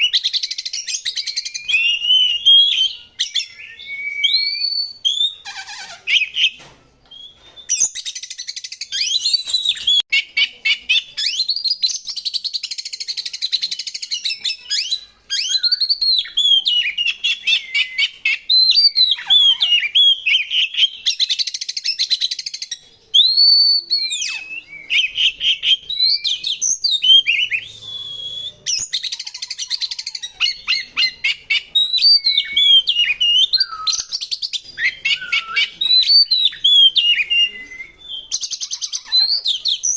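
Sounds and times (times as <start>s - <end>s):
bird singing: 0.0s - 39.9s
whistled bird notes: 0.0s - 39.9s.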